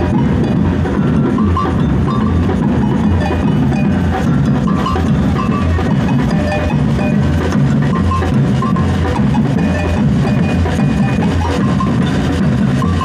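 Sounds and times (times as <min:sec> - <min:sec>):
carnival percussion music: 0:00.0 - 0:13.0.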